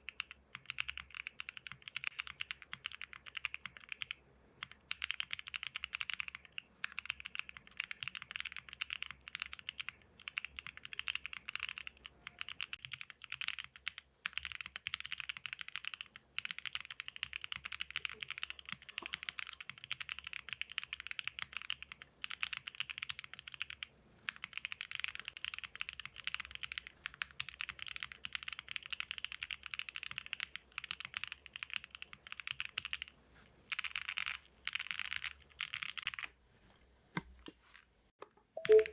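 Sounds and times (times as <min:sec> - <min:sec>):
mechanical keyboard typing: 0:00.0 - 0:33.1, 0:33.7 - 0:36.3, 0:38.6 - 0:38.9.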